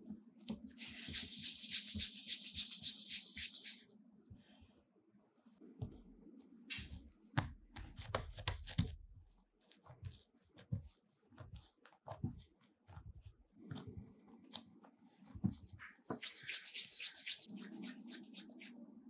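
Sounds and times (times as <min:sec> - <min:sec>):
hands patting and rubbing dough: 0:00.0 - 0:03.8, 0:05.6 - 0:18.8.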